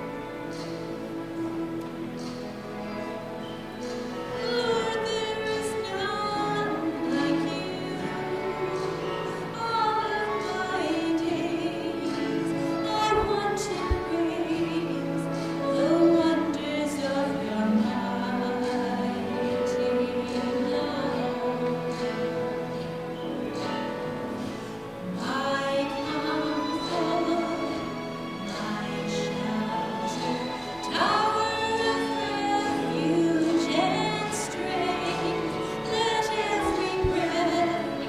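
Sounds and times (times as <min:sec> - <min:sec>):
hymn singing with accompaniment: 0:00.0 - 0:38.0.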